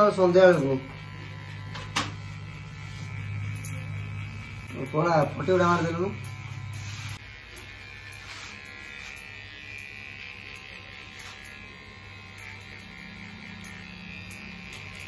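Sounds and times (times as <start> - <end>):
electric hair clipper buzzing: 0.0 - 15.0.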